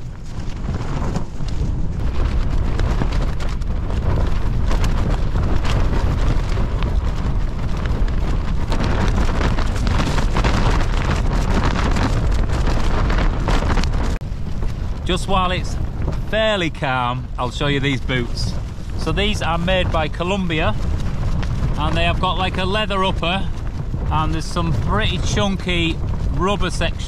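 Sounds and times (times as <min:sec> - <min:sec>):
tent fabric crackling: 0:00.0 - 0:27.0
wind buffeting a tent: 0:00.0 - 0:27.0.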